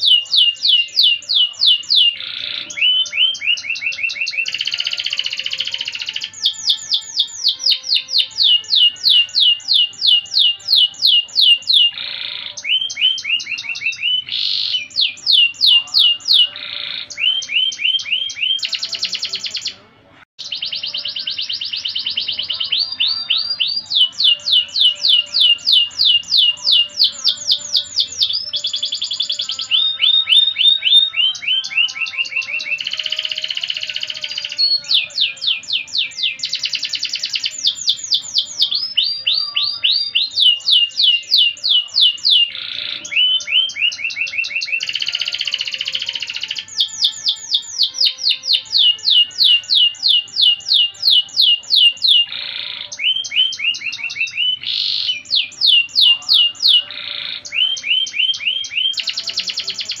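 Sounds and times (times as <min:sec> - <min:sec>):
canary singing: 0:00.0 - 1:00.0.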